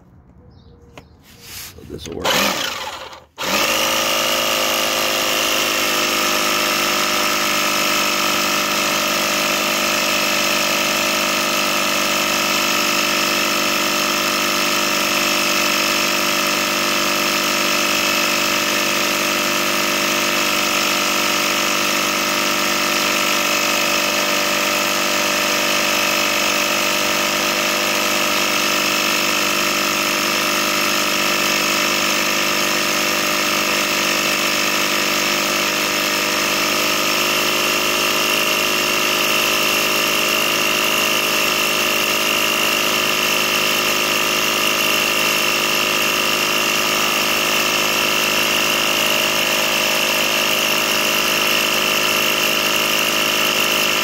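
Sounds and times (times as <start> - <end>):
air compressor running: 1.0 - 54.0.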